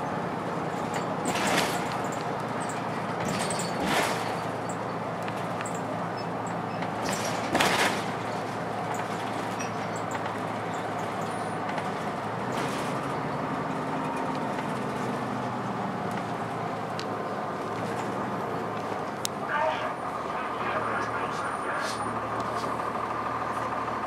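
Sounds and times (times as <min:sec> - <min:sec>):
bus diesel engine running: 0:00.0 - 0:24.0
road and body noise: 0:00.0 - 0:24.0.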